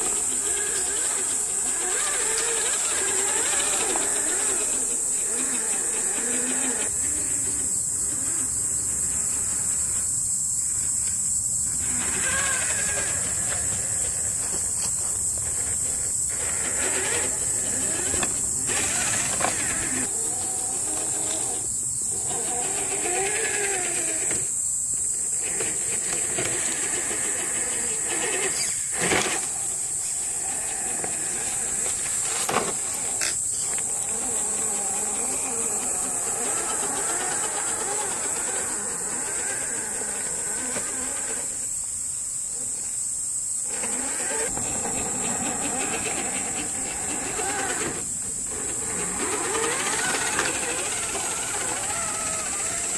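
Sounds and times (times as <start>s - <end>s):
toy car electric motor whining: 0.0s - 10.2s, 11.6s - 43.0s, 43.6s - 52.9s
steady high hiss: 0.0s - 52.9s.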